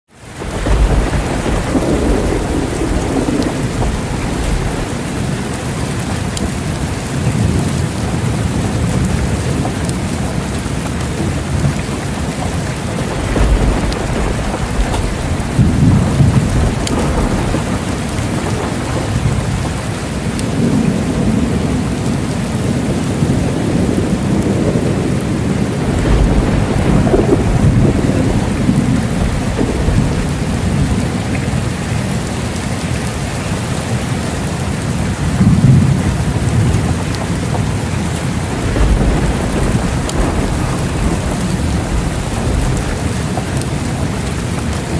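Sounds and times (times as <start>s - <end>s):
heavy rain falling: 0.1s - 44.9s
thunder rumbling: 0.2s - 44.9s.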